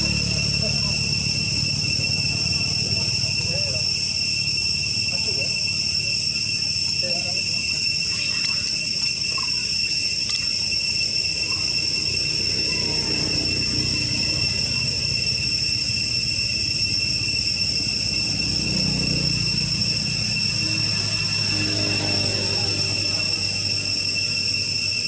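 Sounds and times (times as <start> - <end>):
high-pitched insect drone: 0.0 - 25.0
low steady rumble: 0.0 - 25.0.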